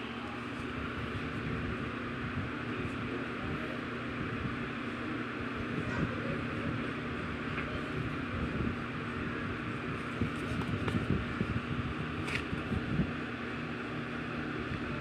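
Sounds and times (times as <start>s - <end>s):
electric fan whirring: 0.0s - 15.0s.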